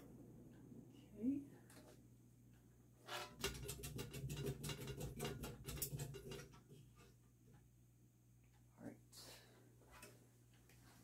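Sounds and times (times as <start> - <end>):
ceiling fan hum: 0.0 - 11.0.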